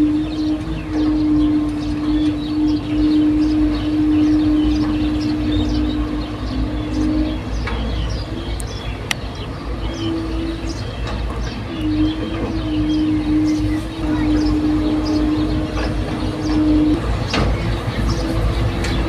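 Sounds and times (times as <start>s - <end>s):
birds chirping: 0.0s - 19.0s
excavator engine and hydraulics: 0.0s - 19.0s.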